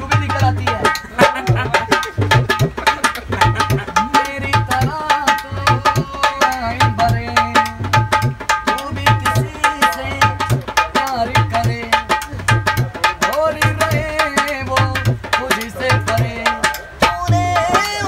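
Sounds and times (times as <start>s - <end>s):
dholak drumming: 0.0s - 18.0s
man singing: 0.0s - 18.0s.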